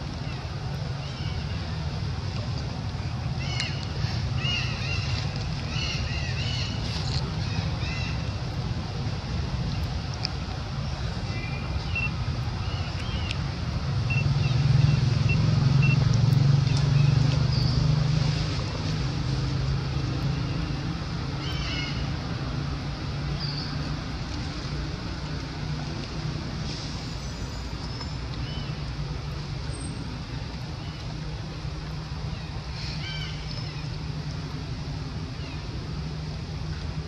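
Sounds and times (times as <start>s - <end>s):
vehicle engine hum: 0.0s - 37.0s.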